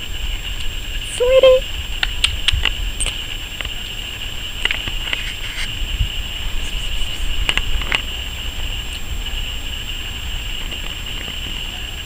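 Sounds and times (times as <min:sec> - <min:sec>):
steady high buzz: 0:00.0 - 0:12.0.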